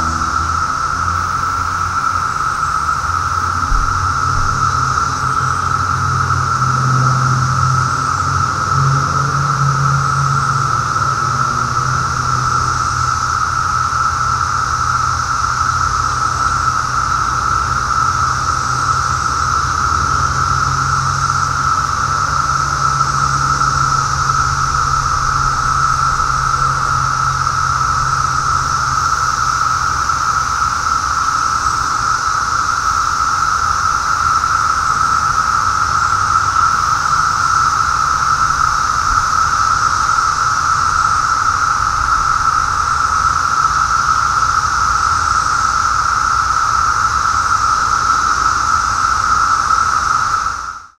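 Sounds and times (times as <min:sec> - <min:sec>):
cicadas droning: 0:00.0 - 0:51.0.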